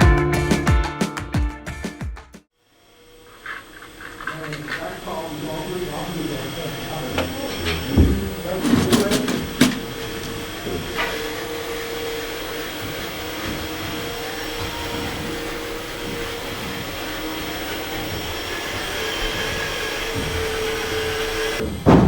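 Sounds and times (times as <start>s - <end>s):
small motor whining: 2.7s - 21.8s.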